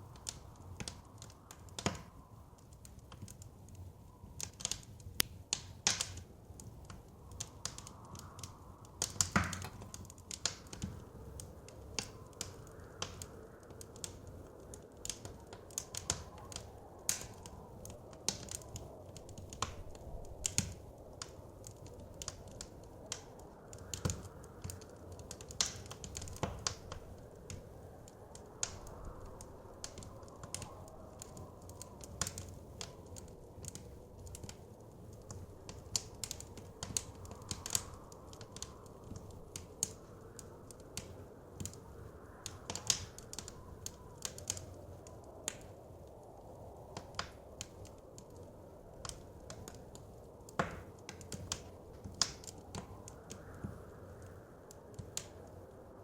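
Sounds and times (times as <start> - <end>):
soft low wind rumble: 0.0 - 56.0
wood fire crackling and popping: 0.0 - 56.0.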